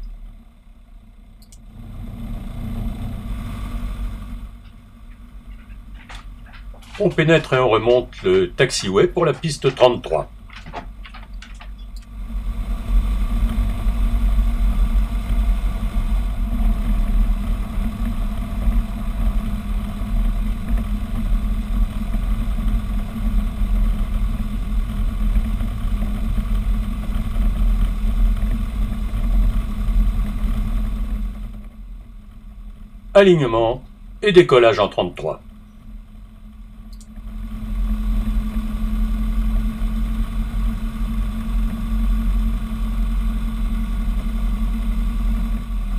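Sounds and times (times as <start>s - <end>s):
light aircraft engine drone: 0.0s - 45.9s.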